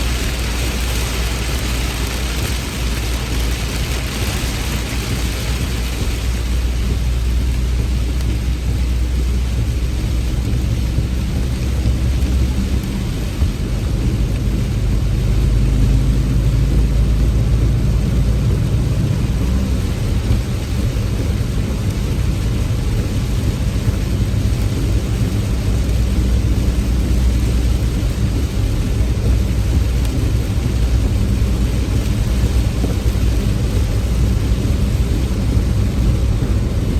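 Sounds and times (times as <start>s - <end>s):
deep low rumble: 0.0s - 36.9s
heavy rain falling: 0.0s - 36.9s.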